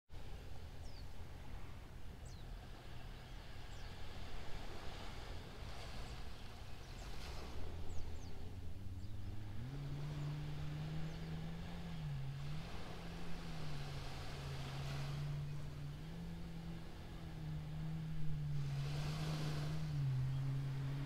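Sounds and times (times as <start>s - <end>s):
light surf: 0.1s - 21.0s
wind: 0.1s - 21.0s
motor engine humming: 0.2s - 21.0s.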